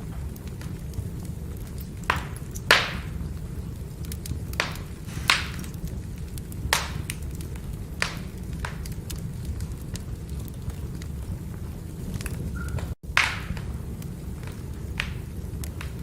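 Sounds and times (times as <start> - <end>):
logs crackling and popping: 0.0 - 16.0
low rush of fire: 0.0 - 16.0.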